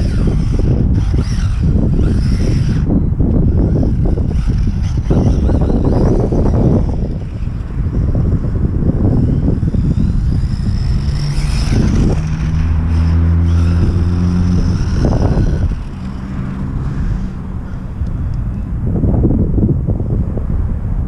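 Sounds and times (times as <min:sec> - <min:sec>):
electric motor and gear whine: 0:00.0 - 0:18.7
steady low hum: 0:00.0 - 0:19.9
wind buffeting microphone: 0:00.0 - 0:21.0.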